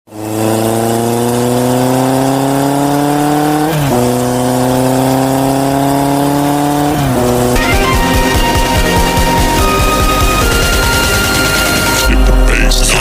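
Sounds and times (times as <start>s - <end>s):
engine drone rising in pitch: 0.1s - 13.0s.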